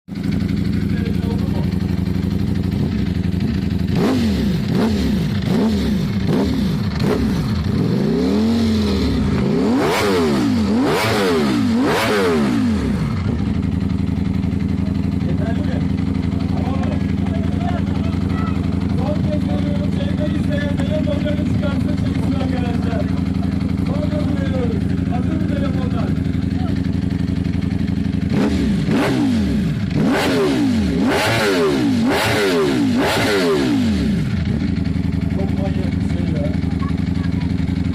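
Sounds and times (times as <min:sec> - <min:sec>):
motorcycle engine revving: 0:00.1 - 0:37.9.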